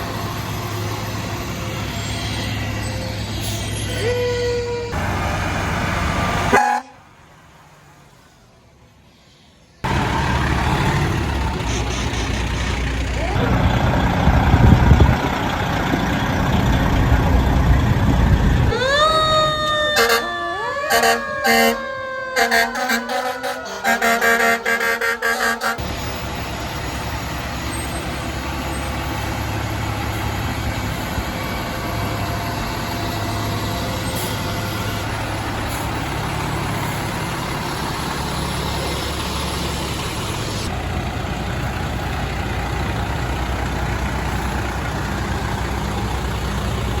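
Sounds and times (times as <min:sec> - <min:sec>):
fire truck siren: 0:00.0 - 0:08.4, 0:09.8 - 0:15.7, 0:18.5 - 0:47.0
fire truck engine rumbling: 0:00.0 - 0:47.0.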